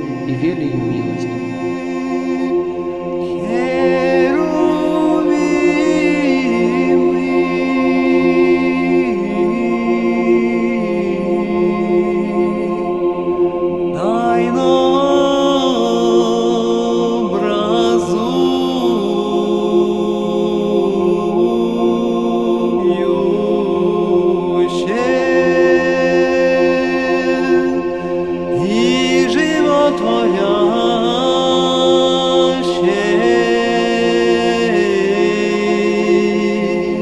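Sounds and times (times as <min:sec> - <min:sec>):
choir chanting: 0:00.0 - 0:37.0.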